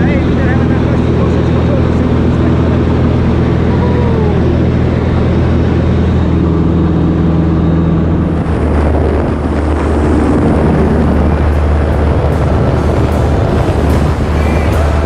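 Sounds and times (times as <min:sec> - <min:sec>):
light aircraft engine drone: 0:00.0 - 0:15.0
low tones: 0:00.0 - 0:15.0.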